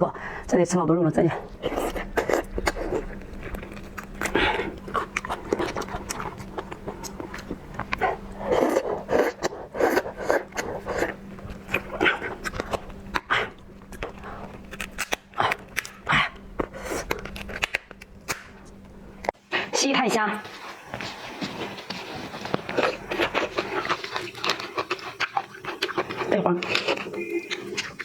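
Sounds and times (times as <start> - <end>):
person chewing with wet mouth smacks: 1.4 - 19.4, 20.5 - 28.0.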